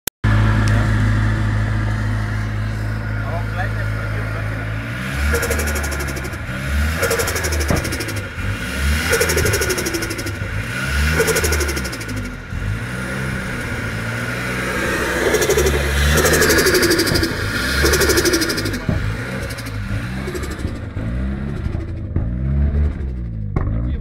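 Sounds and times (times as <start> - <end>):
car engine revving: 0.2 - 24.0
turbo compressor fluttering: 1.0 - 23.6.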